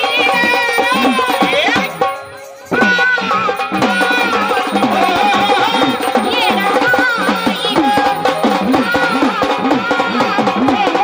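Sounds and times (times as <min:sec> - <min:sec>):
fast drums: 0:00.0 - 0:11.0.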